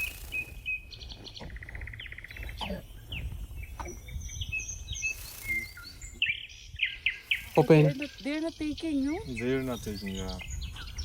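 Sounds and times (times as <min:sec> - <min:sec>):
buzzy bird trill: 0:00.0 - 0:11.0
small songbirds chirping: 0:00.0 - 0:11.0.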